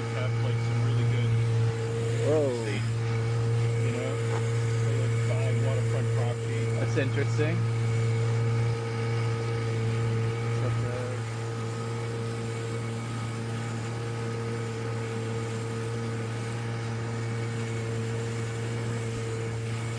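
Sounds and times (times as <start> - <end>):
boat engine droning: 0.0 - 19.9.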